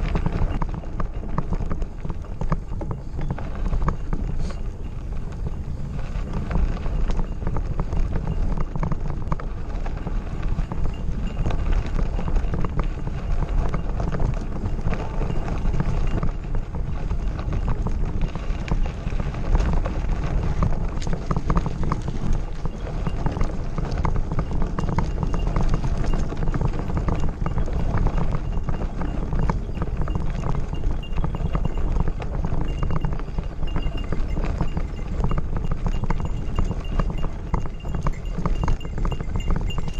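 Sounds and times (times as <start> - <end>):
bike rattling: 0.0 - 39.9
bike tyres crunching on gravel: 0.0 - 39.9.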